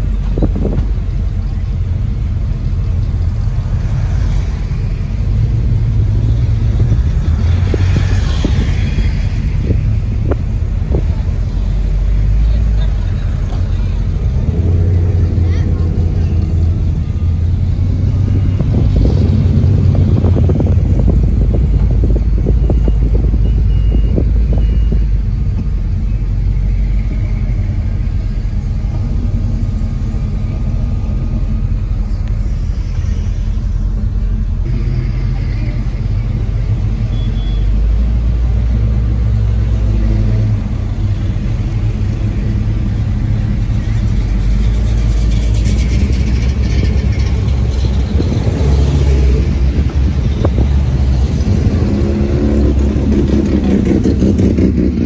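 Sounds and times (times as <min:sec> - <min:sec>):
car engines rumbling past: 0:00.0 - 0:55.0.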